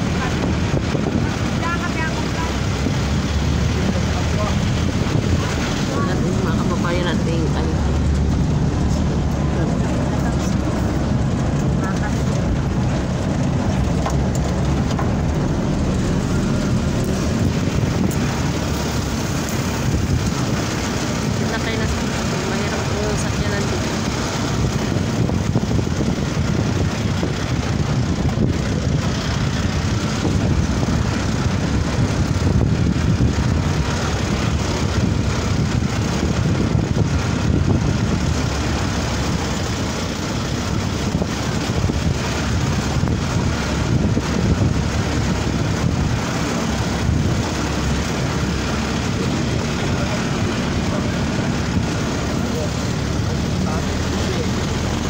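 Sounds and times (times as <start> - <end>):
vehicle rumbling: 0.0 - 55.0
wind buffeting microphone: 0.0 - 55.0.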